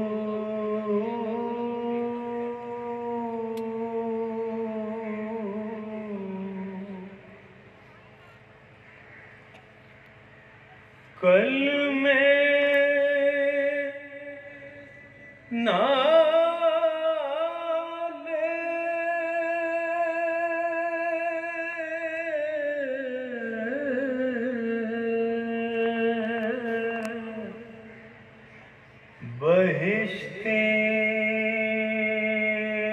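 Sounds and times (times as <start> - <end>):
man chanting: 0.0 - 7.9, 11.1 - 28.4, 29.1 - 32.9.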